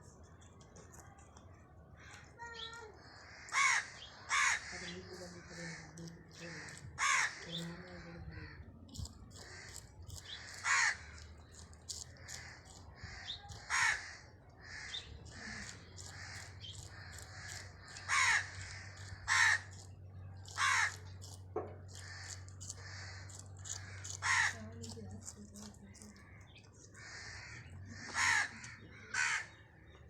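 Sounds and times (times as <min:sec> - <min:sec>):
harsh animal calls: 0:03.1 - 0:25.0, 0:26.0 - 0:29.6.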